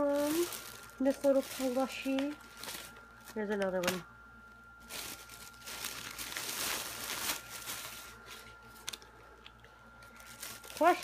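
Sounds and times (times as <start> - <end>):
plastic packaging crinkling: 0.0 - 4.1, 4.8 - 11.0.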